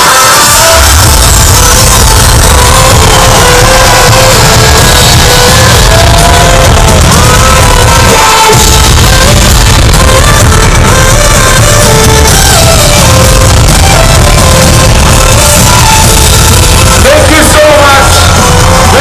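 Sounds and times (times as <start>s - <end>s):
crowd shouting and singing: 0.0s - 19.0s
loud electronic dance music: 0.0s - 19.0s.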